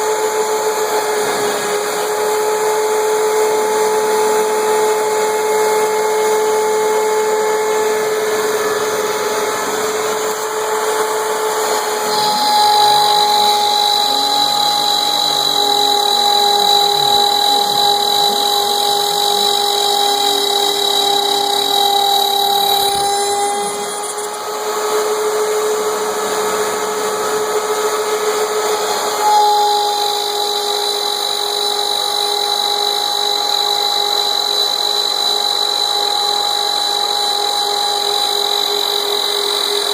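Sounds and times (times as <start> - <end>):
router spindle whining: 0.0 - 39.9
vacuum running: 0.0 - 39.9
lower sweeping whine: 1.8 - 39.9.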